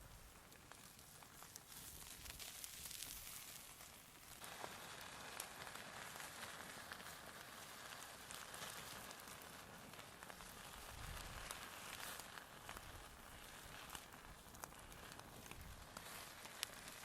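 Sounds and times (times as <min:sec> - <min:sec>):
steak sizzling over fire: 0:00.0 - 0:17.0
wood fire crackles: 0:00.0 - 0:17.0.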